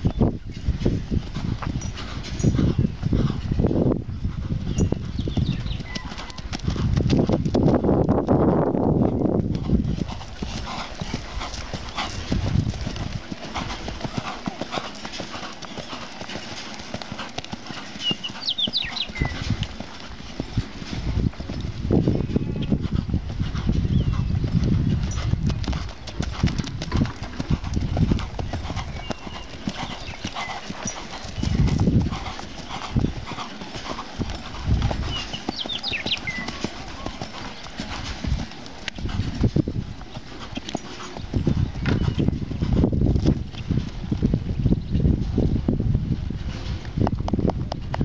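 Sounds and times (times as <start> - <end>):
horse hoofbeats on dirt: 0.0 - 48.0.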